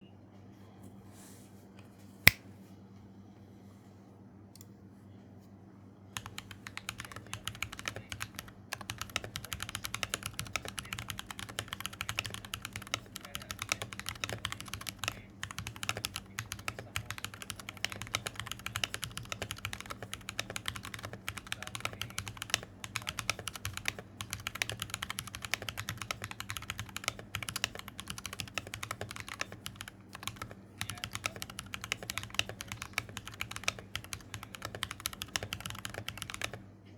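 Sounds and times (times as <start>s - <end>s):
mechanical keyboard typing: 6.2s - 36.6s.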